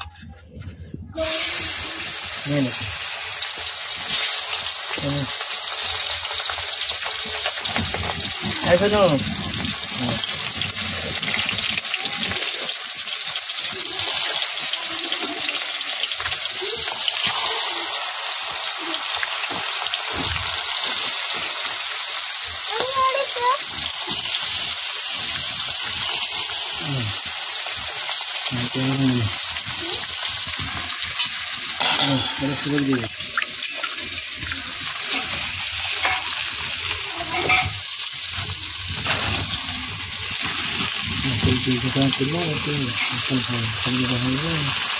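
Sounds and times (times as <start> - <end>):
fish frying in hot oil: 1.2 - 44.9.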